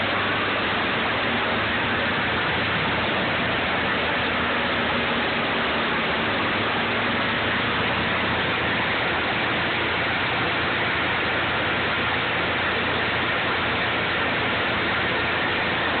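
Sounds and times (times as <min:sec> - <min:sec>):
faint low engine hum: 0:00.0 - 0:16.0
wood chipper running: 0:00.0 - 0:16.0.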